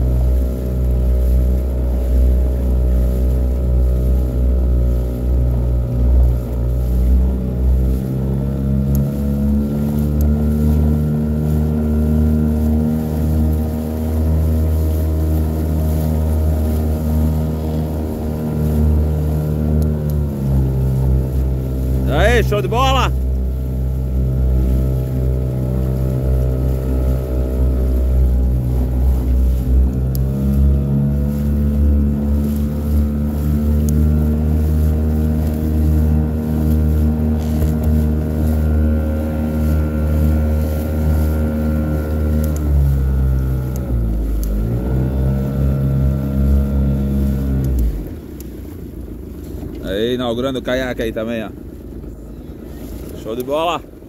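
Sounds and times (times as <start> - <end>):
small outboard motor running: 0.0 - 54.0.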